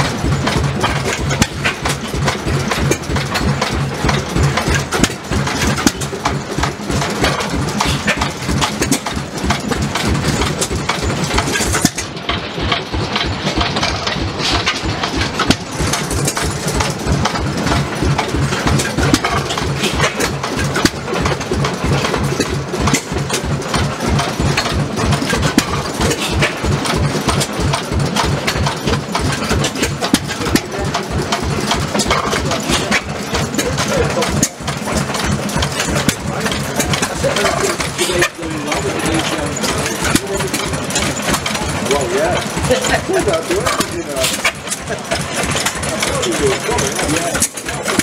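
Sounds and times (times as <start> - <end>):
stationary engines running: 0.0 - 48.0.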